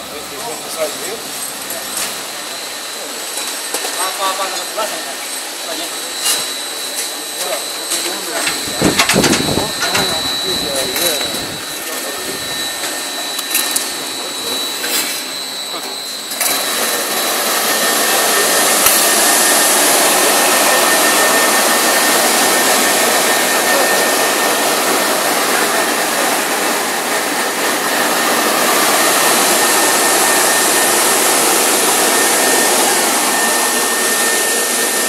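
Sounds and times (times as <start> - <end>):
rushing machine noise: 0.0 - 35.0
thin high tone: 0.1 - 35.0.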